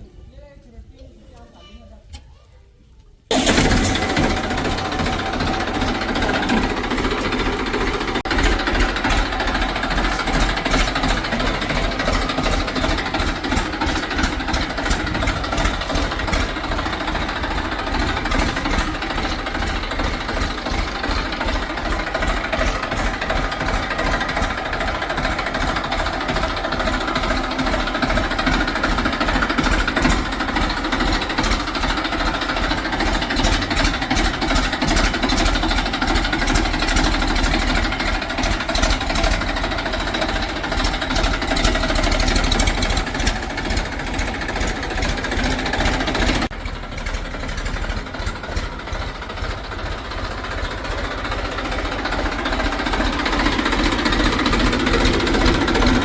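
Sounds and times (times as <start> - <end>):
diesel engine chugging: 3.3 - 56.0.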